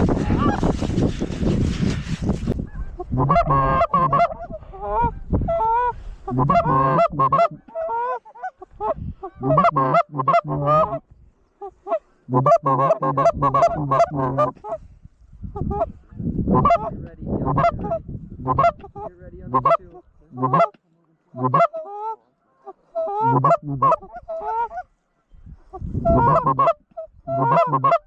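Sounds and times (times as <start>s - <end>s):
goose honking and clucking: 0.0s - 0.8s, 2.5s - 14.9s, 15.6s - 24.9s, 25.7s - 28.0s.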